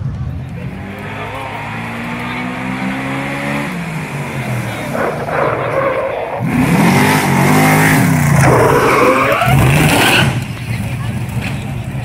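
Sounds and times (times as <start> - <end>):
racing engine revving hard: 0.8 - 10.5.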